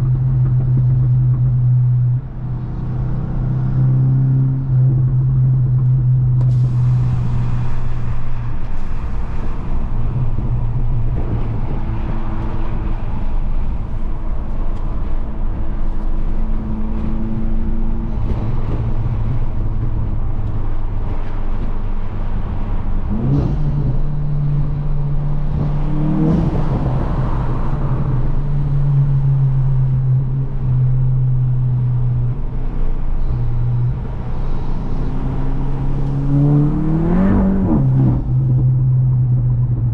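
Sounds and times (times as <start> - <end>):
car engine revving: 0.0 - 39.8.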